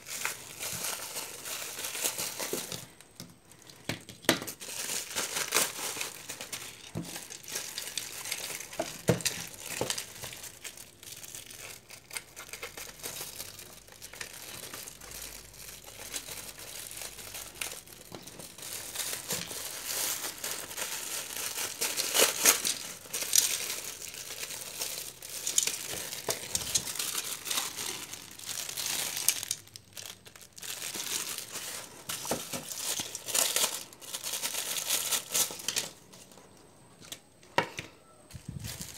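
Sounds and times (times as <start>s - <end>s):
packaging crinkling and rustling: 0.0s - 37.4s, 38.3s - 38.9s.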